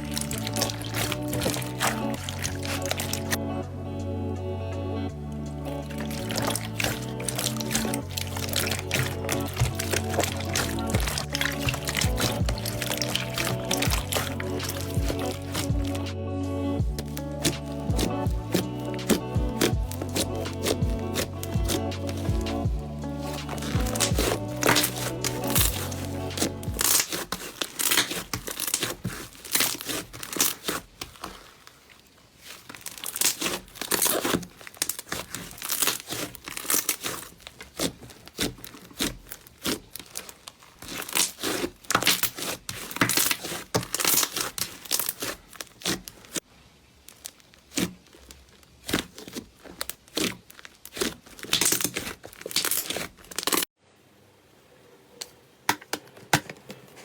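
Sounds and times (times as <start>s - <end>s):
slime crackling and popping: 0.0s - 3.4s, 5.5s - 16.1s, 16.8s - 53.8s.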